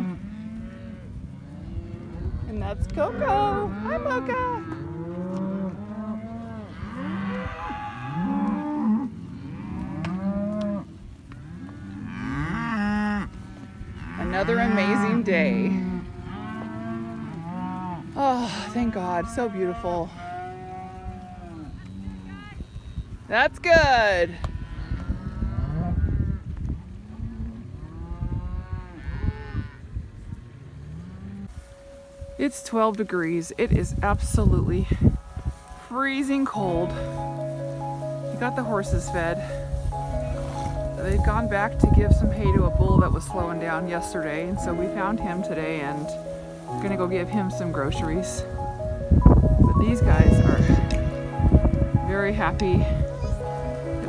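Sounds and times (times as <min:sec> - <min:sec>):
cattle mooing: 0:00.0 - 0:22.2, 0:32.7 - 0:54.0.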